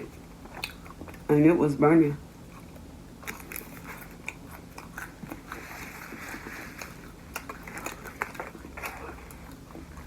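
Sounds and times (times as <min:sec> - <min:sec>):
chewing food: 0:00.0 - 0:01.4, 0:02.3 - 0:10.0.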